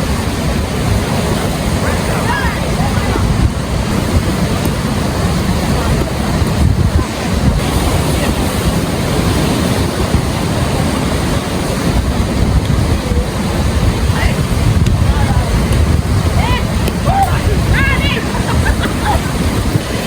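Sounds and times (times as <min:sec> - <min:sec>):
ocean surf: 0:00.0 - 0:20.0
wind buffeting microphone: 0:00.0 - 0:20.0.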